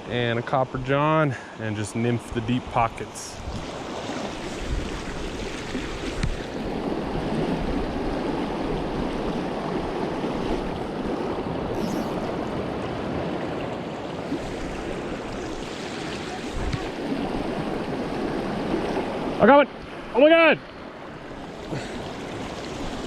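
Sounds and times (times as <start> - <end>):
creek water rushing: 3.3 - 23.0.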